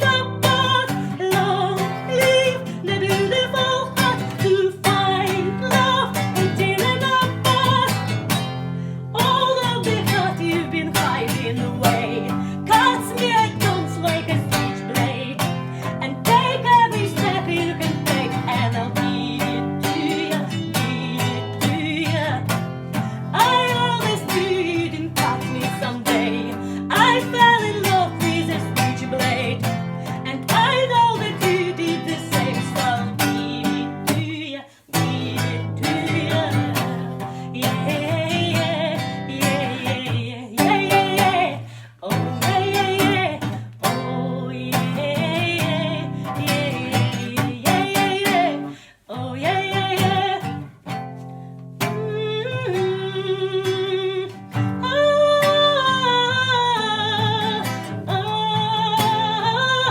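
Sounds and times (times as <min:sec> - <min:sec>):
guitar plucked and strummed: 0:00.0 - 0:59.9.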